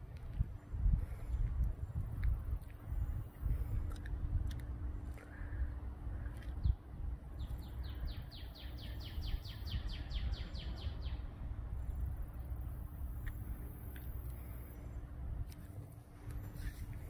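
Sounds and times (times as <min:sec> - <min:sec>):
low rumble: 0:00.0 - 0:17.0
songbird singing: 0:00.0 - 0:17.0.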